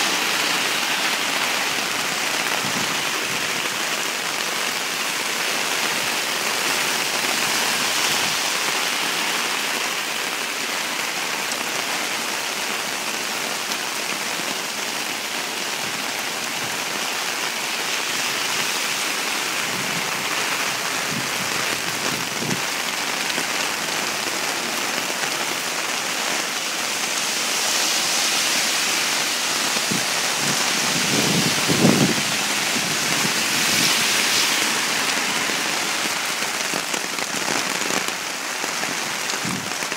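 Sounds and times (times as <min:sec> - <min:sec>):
heavy rain on street and umbrella: 0:00.0 - 0:39.9.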